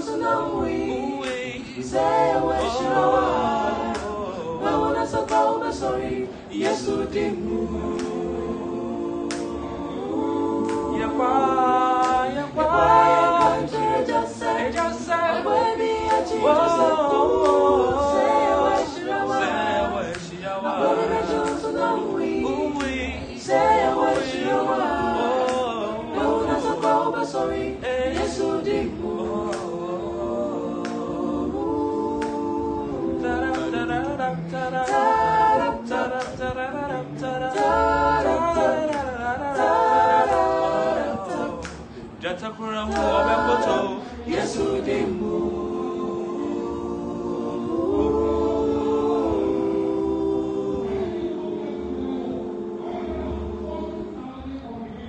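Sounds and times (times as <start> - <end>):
group singing a cappella: 0.0 - 55.0.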